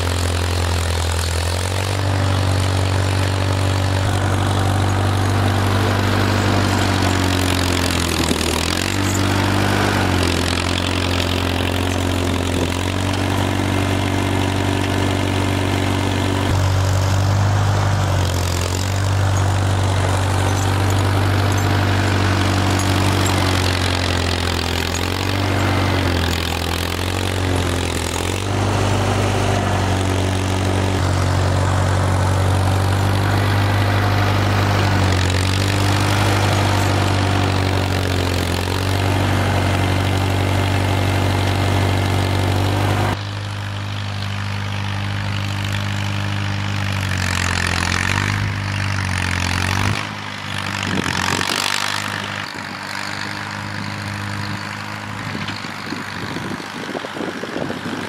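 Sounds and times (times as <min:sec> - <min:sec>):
quieter engine: 0:00.0 - 0:58.0
vehicle engine running: 0:00.0 - 0:58.0.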